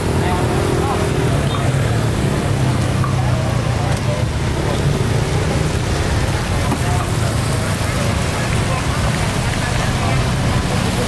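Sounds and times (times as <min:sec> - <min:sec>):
background voices: 0:00.0 - 0:11.0
low rumble of traffic: 0:00.0 - 0:11.0.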